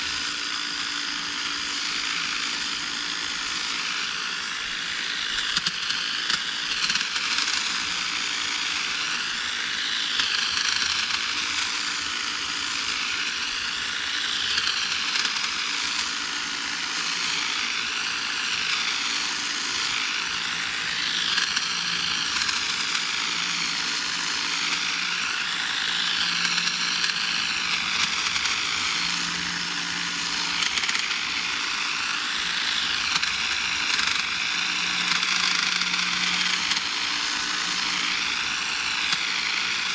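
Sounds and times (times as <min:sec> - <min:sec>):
hedge trimmer cutting branches: 0:00.0 - 0:39.9.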